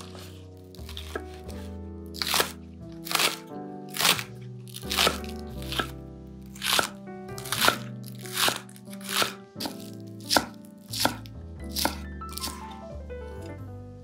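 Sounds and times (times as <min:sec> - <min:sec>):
knife slicing onto wooden board: 0:00.0 - 0:11.2, 0:11.8 - 0:12.7
background music with sustained notes: 0:00.0 - 0:14.0.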